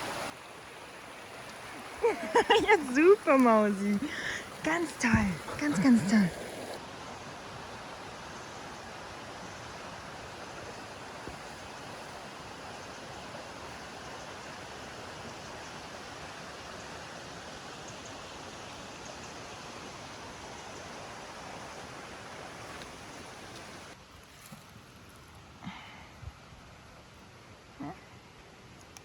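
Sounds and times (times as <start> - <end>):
running water: 0.0 - 25.2.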